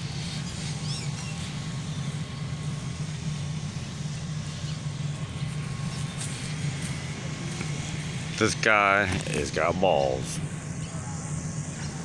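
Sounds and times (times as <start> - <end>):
fire truck engine droning: 0.0 - 12.0.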